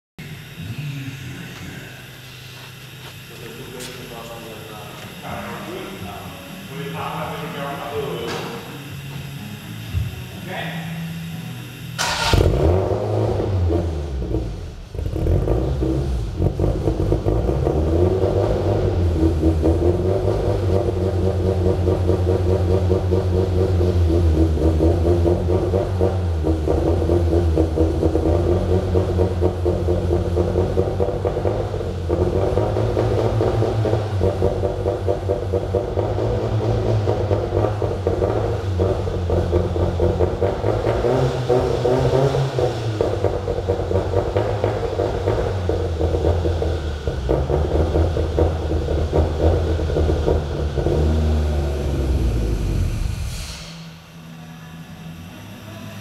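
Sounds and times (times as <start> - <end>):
car engine starting and idling: 0.2 - 56.0.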